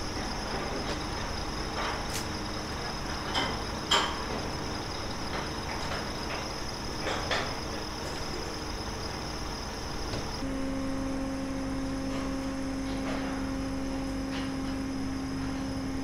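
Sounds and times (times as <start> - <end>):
low machinery hum: 0.0 - 16.0
machinery high whine: 0.0 - 16.0.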